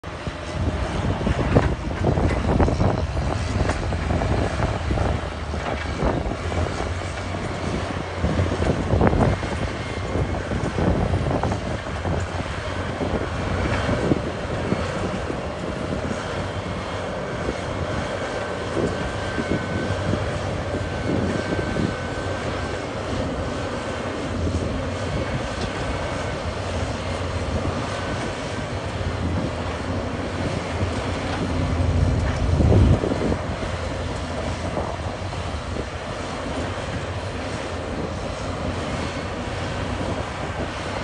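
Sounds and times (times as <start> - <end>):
bulldozer diesel engine: 0.0 - 41.0
steel tracks clanking: 0.1 - 41.0
thin whine: 0.1 - 41.0.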